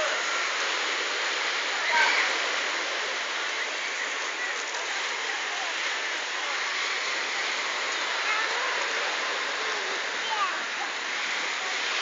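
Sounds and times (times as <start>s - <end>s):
small waves on pebbles: 0.0s - 12.0s.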